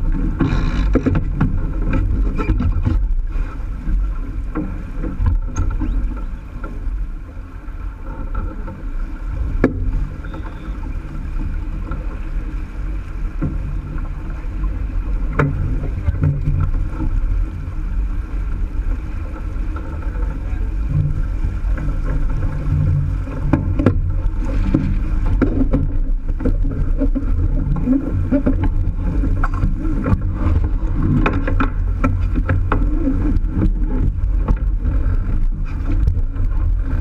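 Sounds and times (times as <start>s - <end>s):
water rushing along a hull: 0.0s - 37.0s.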